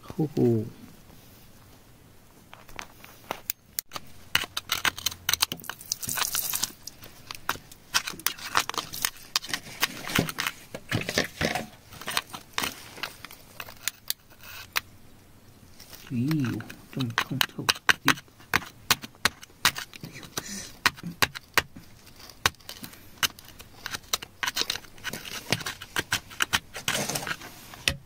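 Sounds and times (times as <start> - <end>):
metal tool scraping wet clay: 3.9 - 14.8, 15.8 - 27.9.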